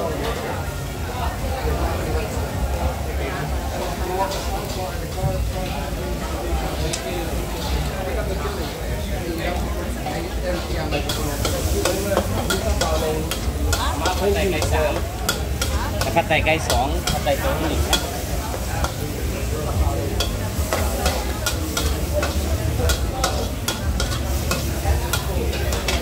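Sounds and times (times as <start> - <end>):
food sizzling in pan: 3.4 - 26.0.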